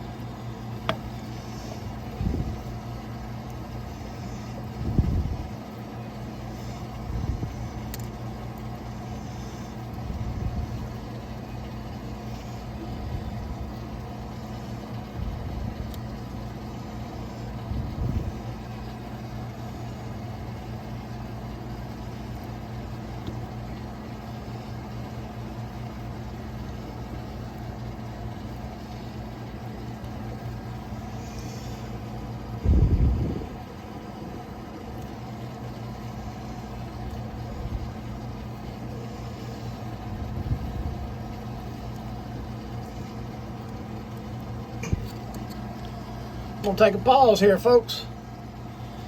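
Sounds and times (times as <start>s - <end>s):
low mechanical motor hum: 0.0s - 49.0s.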